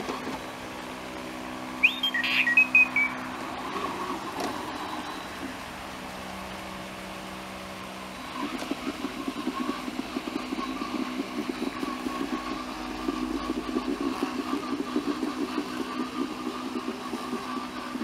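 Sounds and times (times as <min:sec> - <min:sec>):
electric motors humming: 0:00.0 - 0:18.0
pulsing motor whir: 0:00.0 - 0:18.0.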